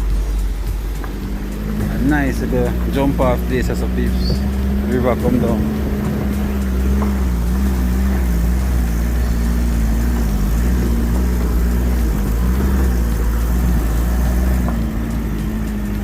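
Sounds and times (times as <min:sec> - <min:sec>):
road rumble: 0:00.0 - 0:16.0
vehicle engine hum: 0:00.0 - 0:16.0.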